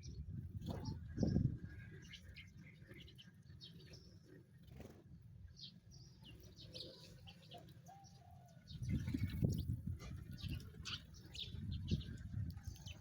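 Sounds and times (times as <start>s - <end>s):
sparrows chirping: 0.8s - 13.0s.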